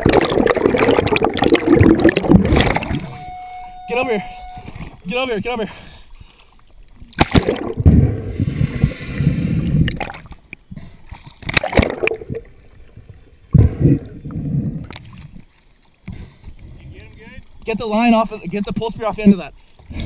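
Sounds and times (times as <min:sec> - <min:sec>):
seawater splashing and gurgling: 0:00.0 - 0:16.8.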